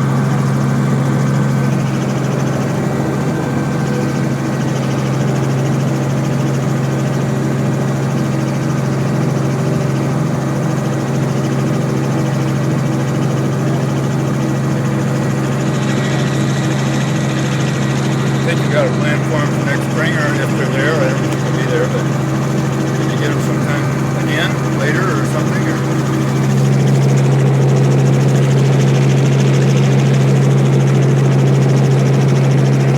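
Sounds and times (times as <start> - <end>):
helicopter engine and rotor hum: 0.0 - 32.9.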